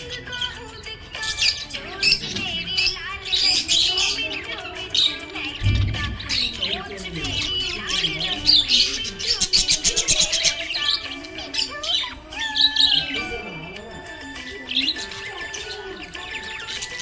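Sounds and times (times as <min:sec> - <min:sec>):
budgerigar chirping and warbling: 0:00.0 - 0:17.0.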